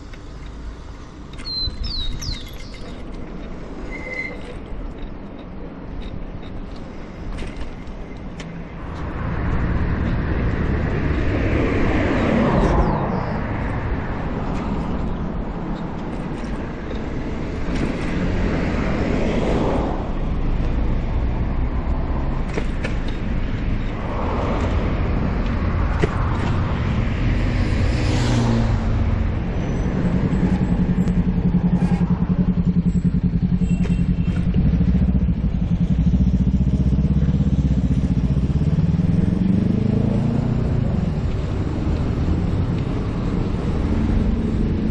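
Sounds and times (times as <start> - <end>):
city road traffic: 0.0 - 44.9
steady engine hum: 0.0 - 44.9
vehicles passing: 0.0 - 44.9.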